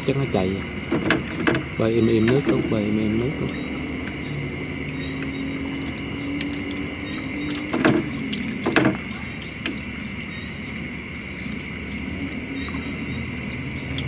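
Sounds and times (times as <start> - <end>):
crickets chirping: 0.0 - 14.0
low hum: 0.0 - 14.0.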